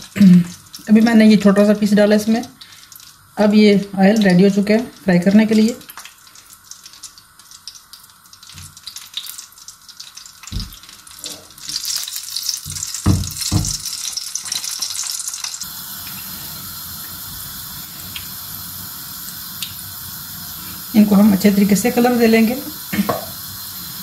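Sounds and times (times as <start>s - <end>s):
oil sizzling in a wok: 0.0s - 24.0s.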